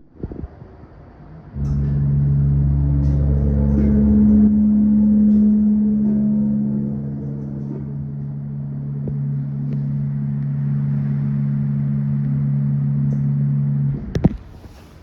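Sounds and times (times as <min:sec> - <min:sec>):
elevator pump motor humming: 0:01.5 - 0:15.0.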